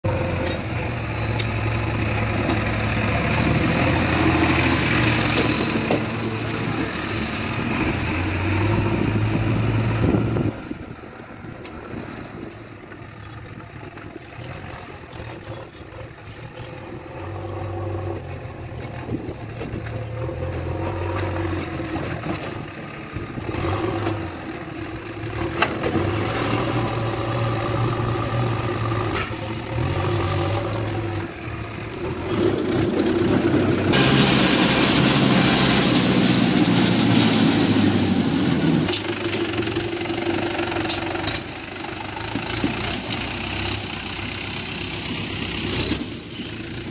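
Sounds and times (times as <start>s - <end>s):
diesel engines running: 0.0s - 46.9s.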